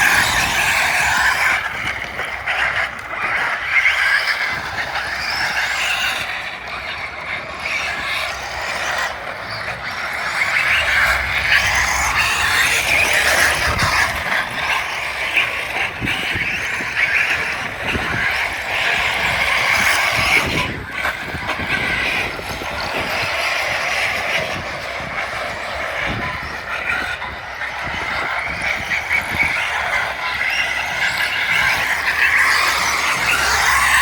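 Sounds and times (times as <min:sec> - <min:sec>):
toy car motors whirring: 0:00.0 - 0:34.0.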